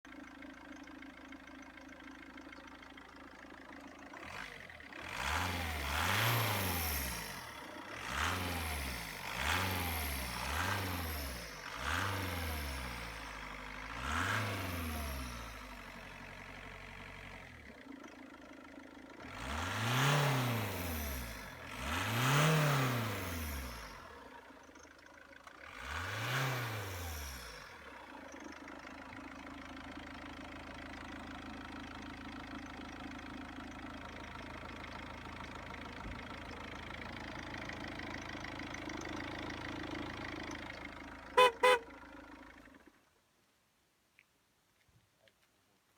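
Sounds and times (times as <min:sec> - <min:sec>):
diesel engine idling and revving: 0:00.0 - 0:43.0.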